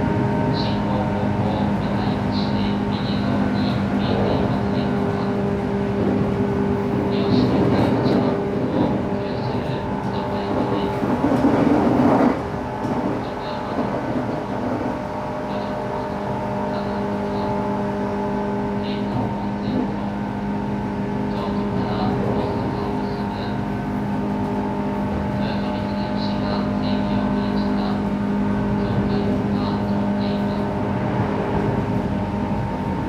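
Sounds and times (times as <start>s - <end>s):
rush of train noise: 0.0s - 33.0s
train motor and gear hum: 0.0s - 33.0s
wheel-on-rail rumble: 0.5s - 33.0s.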